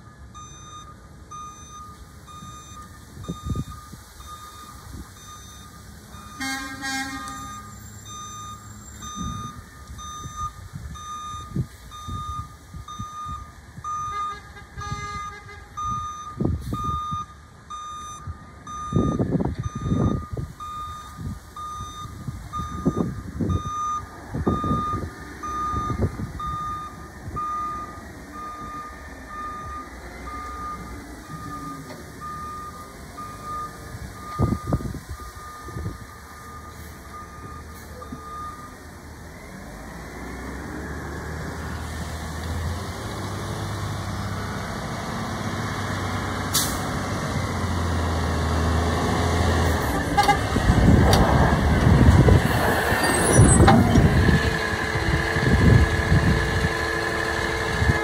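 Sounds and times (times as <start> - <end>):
truck backup alarm beeping: 0.0 - 41.8, 42.4 - 58.0
diesel engine revving: 0.0 - 58.0.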